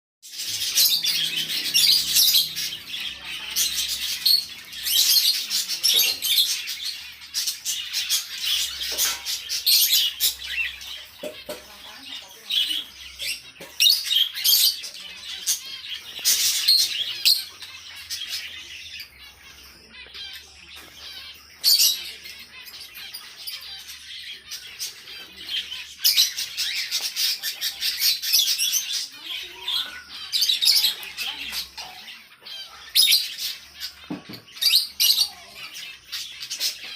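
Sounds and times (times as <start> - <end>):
small parrots chirping and chattering: 0.2 - 36.9.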